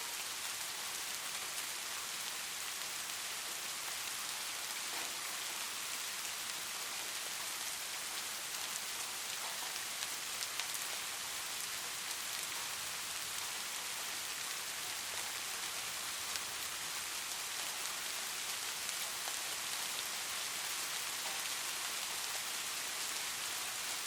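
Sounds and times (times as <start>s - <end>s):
light rain falling: 0.0s - 24.0s.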